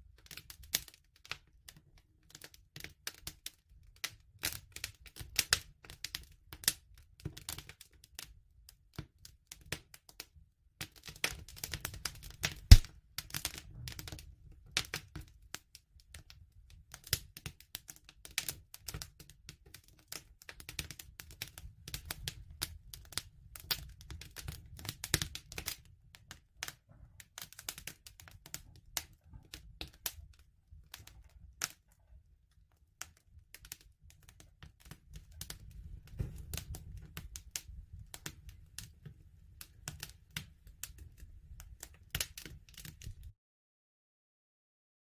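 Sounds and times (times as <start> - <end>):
wood fire crackling: 0.0 - 43.3.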